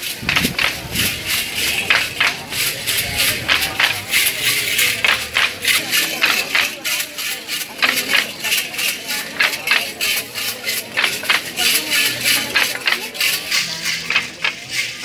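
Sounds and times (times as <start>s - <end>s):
hand rattles shaken rhythmically: 0.0s - 15.0s
voices: 0.0s - 15.0s.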